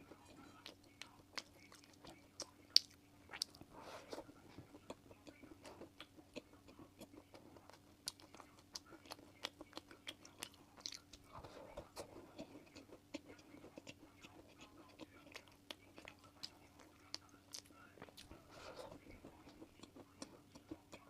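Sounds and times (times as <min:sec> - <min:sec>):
chewing crunches: 0:00.0 - 0:21.0
faint steady hum: 0:00.0 - 0:21.0.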